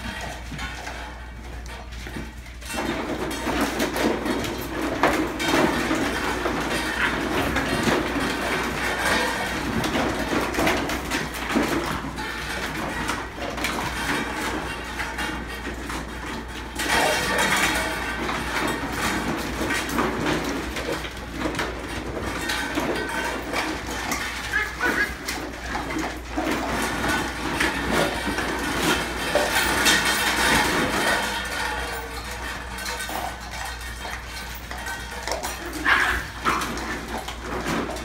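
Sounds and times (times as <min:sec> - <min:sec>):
puppies playing: 0:00.0 - 0:38.0.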